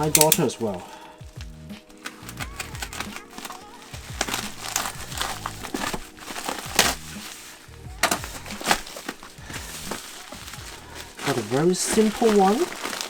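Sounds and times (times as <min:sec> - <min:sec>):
background music: 0:00.0 - 0:13.0
plastic packaging crinkling: 0:00.0 - 0:13.0.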